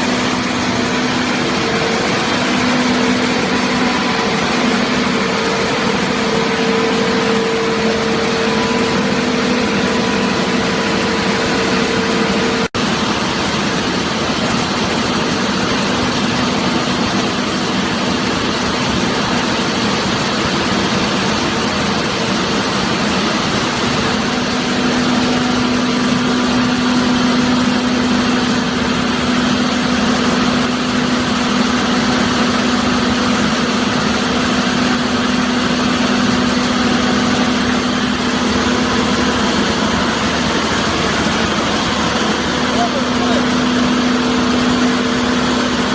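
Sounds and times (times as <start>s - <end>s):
baler power unit humming: 0.0s - 45.9s.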